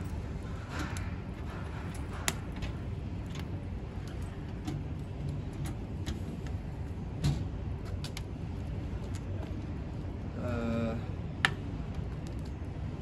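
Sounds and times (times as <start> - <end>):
low rumble of fire: 0.0 - 13.0.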